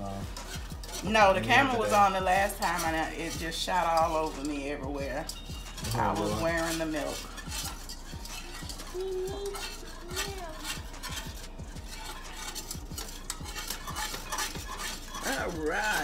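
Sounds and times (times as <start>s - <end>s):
utensil scraping and tapping pan: 0.0s - 16.0s
utensil stirring sauce in pot: 0.0s - 16.0s.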